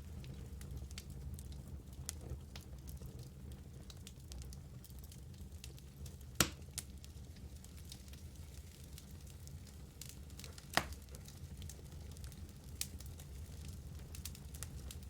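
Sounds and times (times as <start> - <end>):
fire crackling: 0.0 - 15.0
fire flames rumbling: 0.0 - 15.0.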